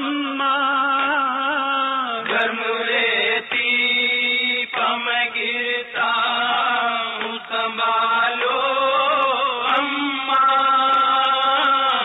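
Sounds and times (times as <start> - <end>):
person chanting a lament: 0.0 - 12.0.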